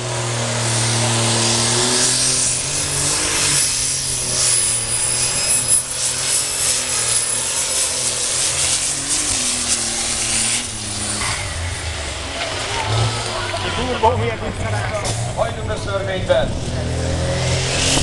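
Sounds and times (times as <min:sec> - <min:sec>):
diesel engine running flat out: 0:00.0 - 0:18.0.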